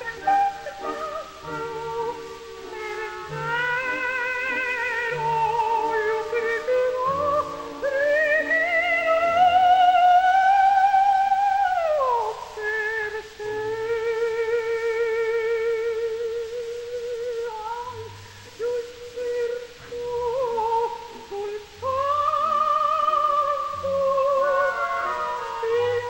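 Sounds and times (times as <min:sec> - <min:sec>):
soprano singing with vibrato: 0:00.0 - 0:26.0.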